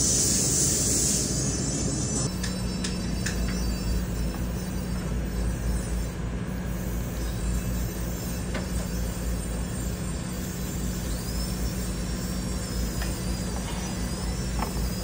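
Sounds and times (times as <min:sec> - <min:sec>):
suction unit humming: 0:00.0 - 0:15.0.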